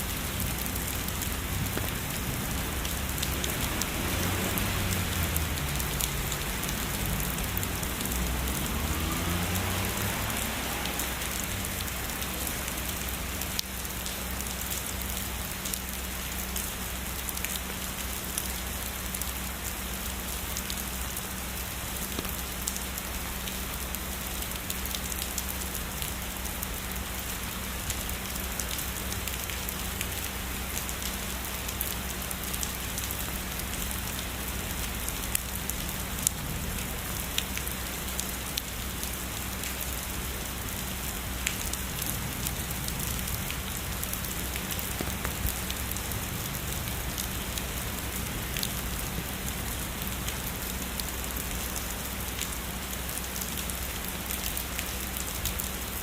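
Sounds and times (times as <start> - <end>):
heavy rain falling: 0.0 - 56.0
raindrops tapping: 0.0 - 56.0.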